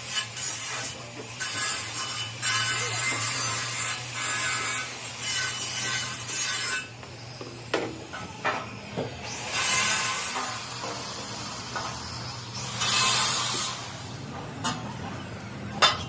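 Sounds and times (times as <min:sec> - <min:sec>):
tool scraping metal: 0:00.0 - 0:15.0.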